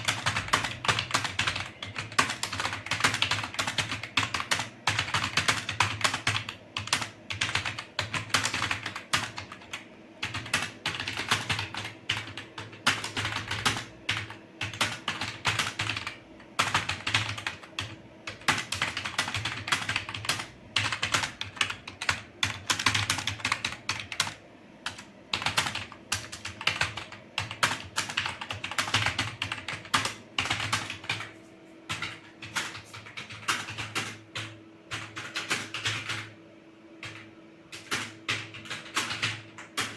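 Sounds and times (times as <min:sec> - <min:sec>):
fast typing on rattly keyboard: 0:00.0 - 0:31.3, 0:31.9 - 0:36.3, 0:37.0 - 0:39.9.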